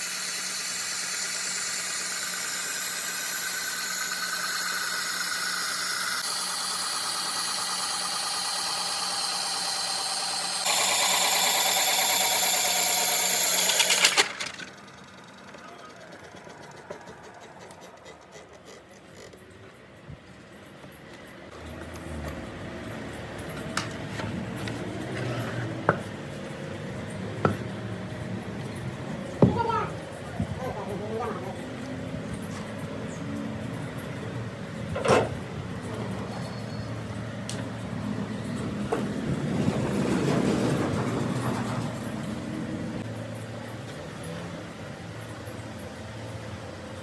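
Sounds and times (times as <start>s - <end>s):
workshop machine humming: 0.0s - 47.0s.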